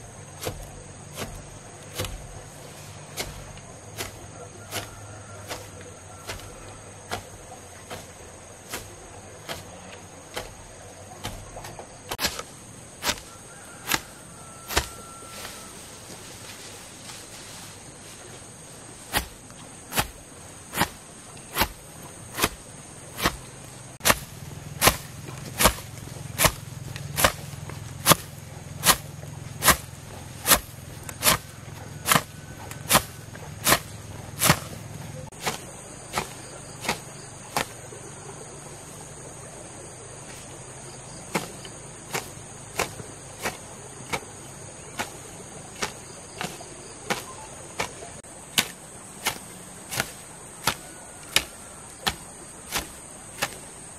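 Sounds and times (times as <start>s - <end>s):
high insect trill: 0.0s - 53.9s
hand hoe chopping into soil: 0.2s - 15.7s, 19.0s - 38.0s, 40.2s - 53.9s.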